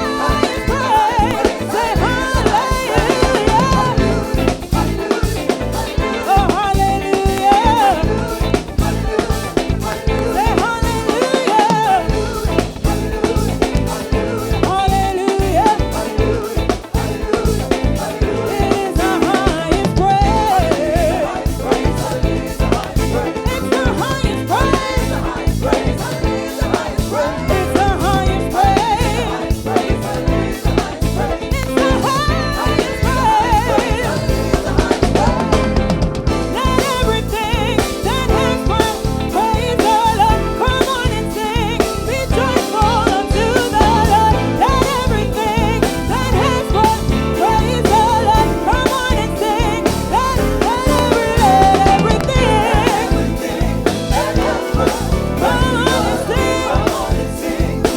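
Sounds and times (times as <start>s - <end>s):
drum kit groove: 0.0s - 57.9s
full band playing: 0.0s - 57.9s
person singing: 0.0s - 57.9s.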